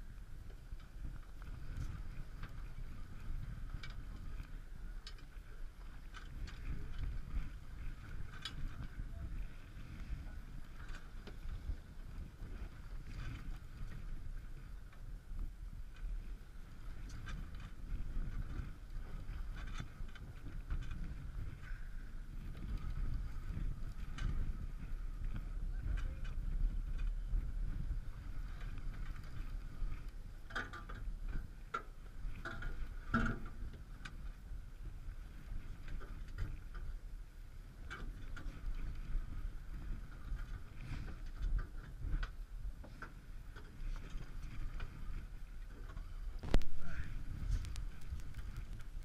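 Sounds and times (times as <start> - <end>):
sea water around hull: 0.0 - 49.0
wind rumbling on microphone: 0.0 - 49.0.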